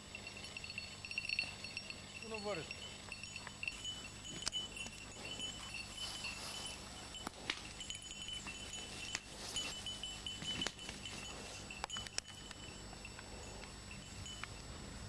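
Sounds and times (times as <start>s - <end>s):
dog collar bell tinkling: 0.0s - 15.0s.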